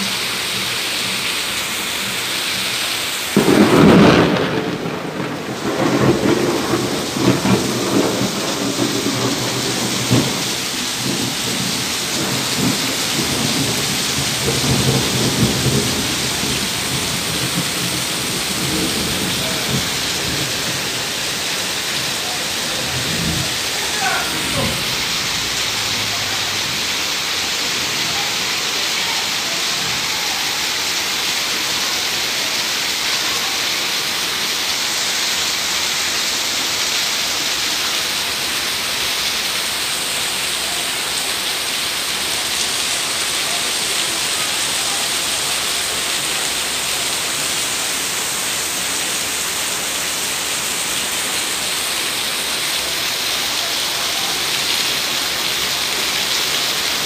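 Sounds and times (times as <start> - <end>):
heavy rain on metal roofs: 0.0 - 57.0.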